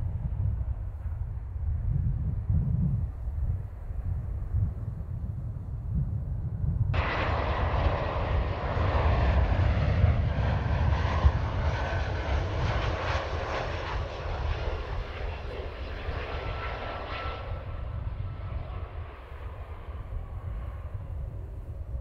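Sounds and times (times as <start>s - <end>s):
jet airliner engines rumbling: 0.0s - 22.0s.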